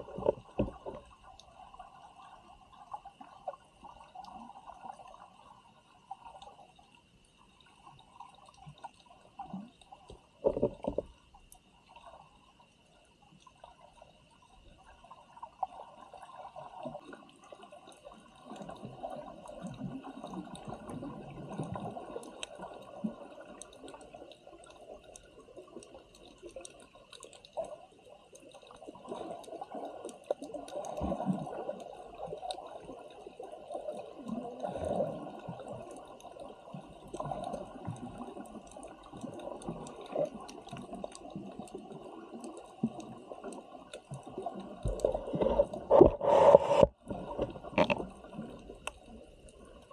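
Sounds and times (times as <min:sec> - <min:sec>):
water sloshing and gurgling: 0:00.0 - 0:49.9.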